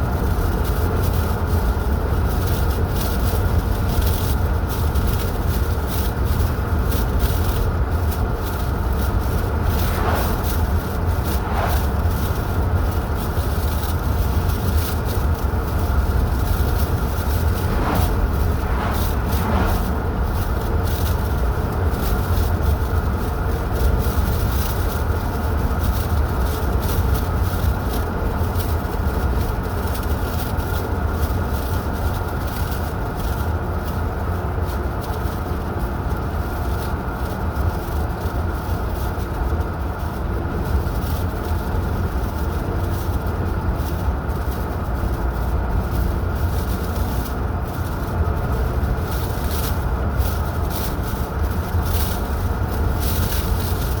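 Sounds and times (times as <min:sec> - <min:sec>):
car road and wind noise: 0:00.0 - 0:54.0.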